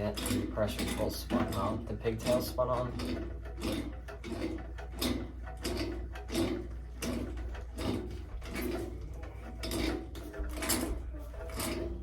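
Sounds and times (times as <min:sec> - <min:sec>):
wrench creaking and grinding pipe: 0:00.0 - 0:12.0.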